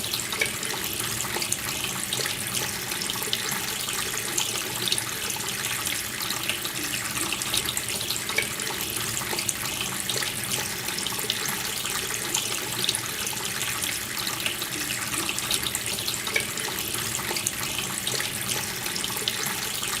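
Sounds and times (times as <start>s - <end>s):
tap water splashing into sink: 0.0s - 20.0s.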